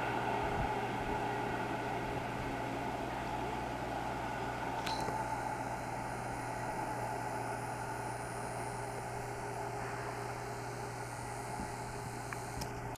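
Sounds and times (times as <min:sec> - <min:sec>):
distant train rumble: 0:00.0 - 0:12.9.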